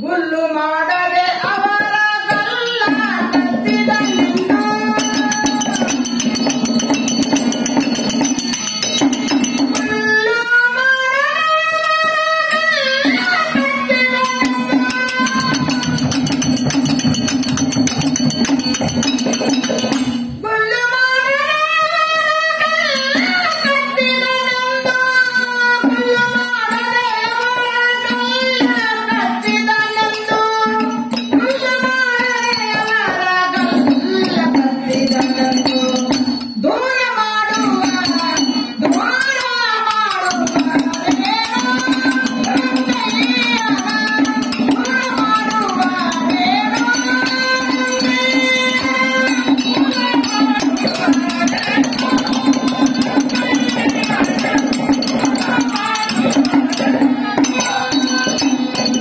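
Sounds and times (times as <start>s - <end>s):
woman singing: 0.0s - 16.6s, 20.4s - 59.0s
hand cymbals jingling: 0.0s - 20.4s, 22.4s - 59.0s.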